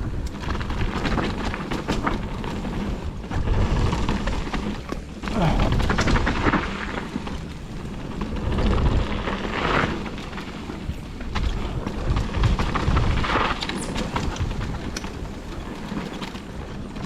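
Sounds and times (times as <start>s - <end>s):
wind rushing over microphone: 0.0s - 15.8s
bike rattling over dirt trail: 0.0s - 17.0s.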